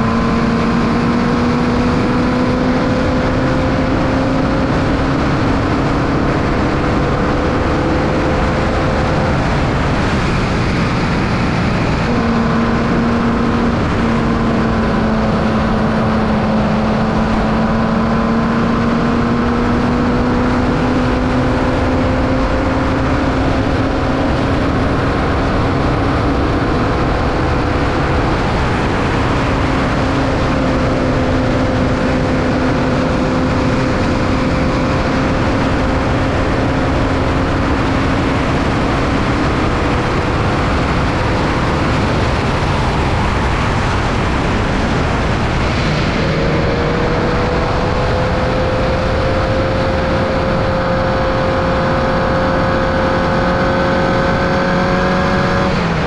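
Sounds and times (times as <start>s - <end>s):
heavy wind noise: 0.0s - 56.0s
race car engine at high revs: 0.0s - 56.0s.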